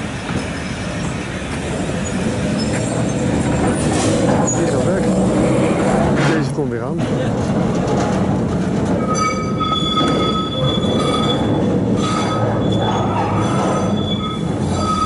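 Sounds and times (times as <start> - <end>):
tram wheels squealing: 0.0 - 6.5, 7.9 - 15.0
low rumble of tram: 0.0 - 15.0.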